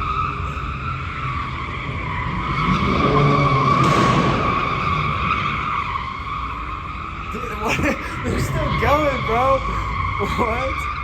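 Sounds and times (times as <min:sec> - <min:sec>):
car tyres squealing: 0:00.0 - 0:11.0
car engine revving: 0:00.2 - 0:11.0.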